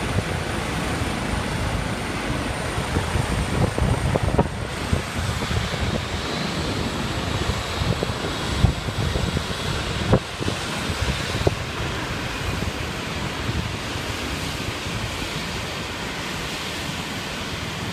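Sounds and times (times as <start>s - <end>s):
distant helicopter running: 0.0s - 17.9s
wind buffeting microphone: 0.0s - 17.9s.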